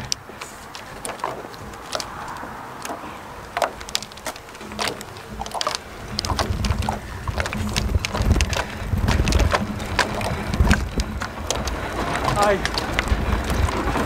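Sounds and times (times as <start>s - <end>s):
low rumble: 0.0s - 14.0s
metal trolley rattling on bricks: 0.0s - 14.0s.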